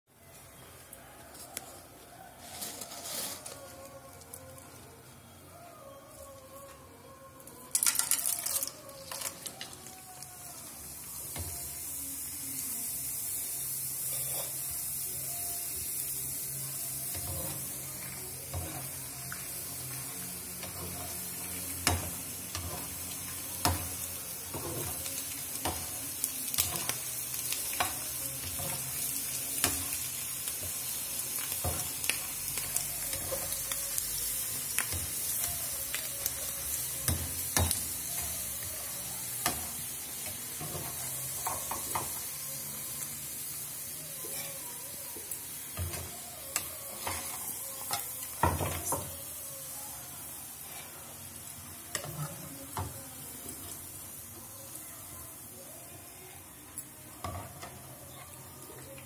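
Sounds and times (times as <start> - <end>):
food sizzling in hot pan: 7.6 - 59.0.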